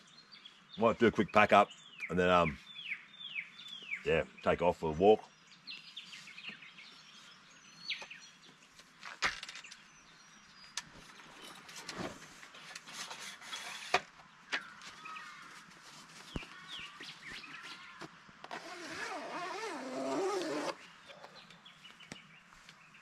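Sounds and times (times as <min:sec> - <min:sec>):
birds chirping: 0:00.0 - 0:12.8, 0:13.6 - 0:23.0.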